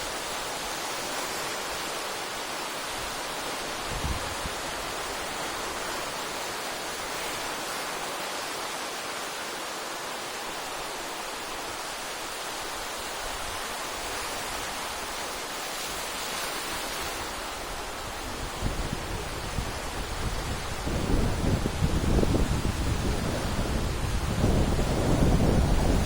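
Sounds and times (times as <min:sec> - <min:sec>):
ocean waves breaking on shore: 0:00.0 - 0:26.0.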